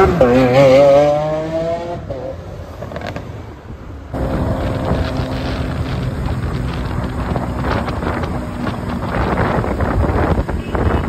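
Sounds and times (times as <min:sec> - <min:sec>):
sports car accelerating: 0:00.0 - 0:03.4, 0:04.1 - 0:10.6
low drone with wind noise: 0:00.0 - 0:11.0.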